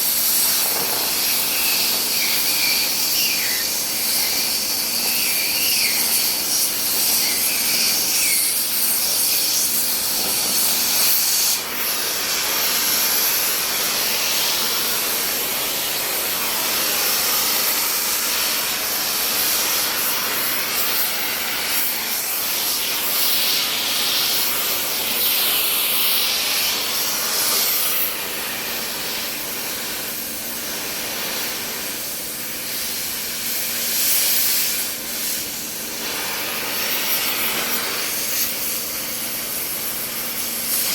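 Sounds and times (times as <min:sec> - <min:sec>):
welding hiss and crackle: 0:00.0 - 0:40.9.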